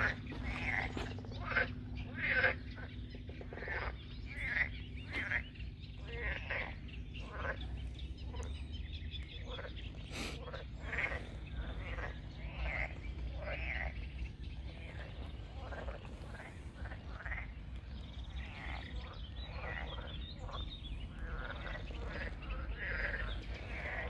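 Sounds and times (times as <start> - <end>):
frogs croaking: 0.0 - 24.0
low steady rumble: 0.0 - 24.0.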